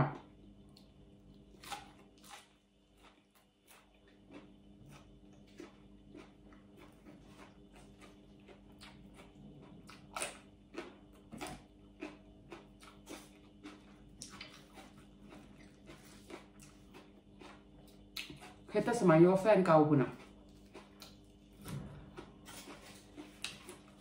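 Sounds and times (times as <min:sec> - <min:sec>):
person chewing food: 0:00.1 - 0:18.7, 0:20.1 - 0:24.0.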